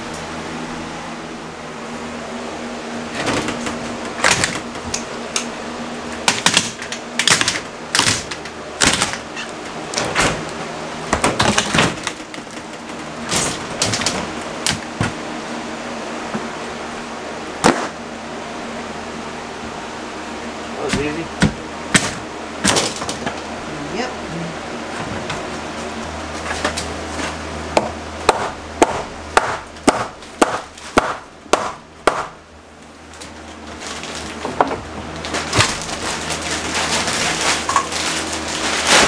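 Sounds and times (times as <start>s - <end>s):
box fan humming: 0.0s - 39.0s.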